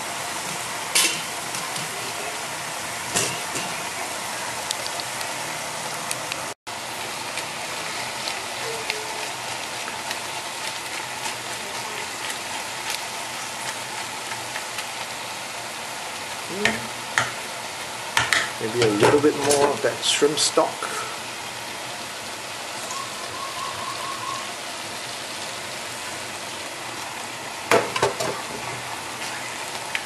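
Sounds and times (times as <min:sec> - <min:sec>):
noodles sizzling in a pan: 0:00.0 - 0:30.0.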